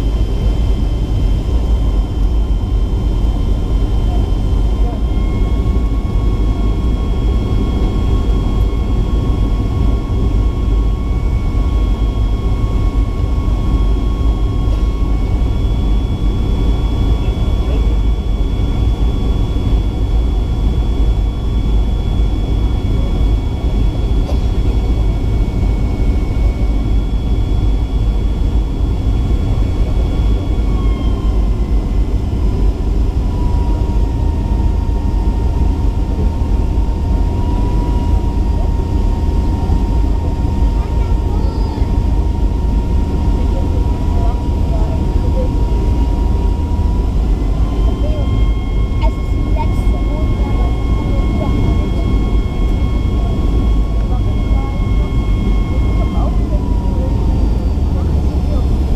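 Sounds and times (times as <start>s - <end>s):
aircraft cabin rumble and air rush: 0.0s - 58.9s
thin jet engine whines: 0.0s - 58.9s.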